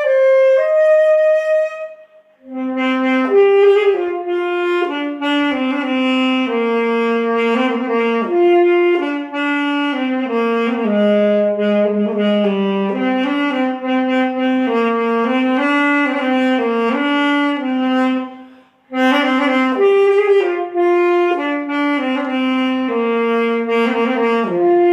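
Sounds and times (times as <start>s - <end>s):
reedy wind instrument melody: 0.0s - 24.9s.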